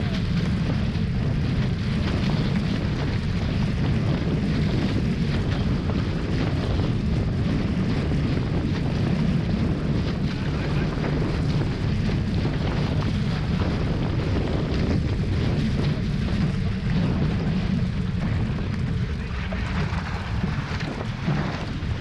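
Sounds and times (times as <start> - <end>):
water rushing past hulls: 0.0 - 22.0
wind buffeting microphone: 0.0 - 22.0.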